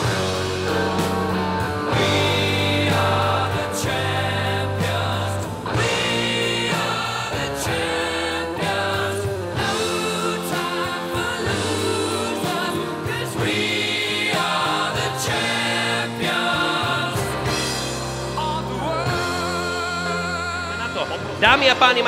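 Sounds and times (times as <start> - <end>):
song with sung vocals: 0.0 - 22.0
steady bass line: 0.0 - 22.0.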